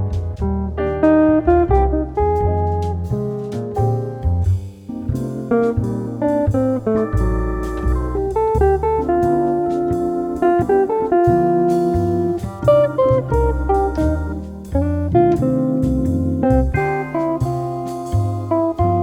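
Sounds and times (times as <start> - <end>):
plucked jazz guitar: 0.0 - 19.0
walking bass line: 0.0 - 19.0.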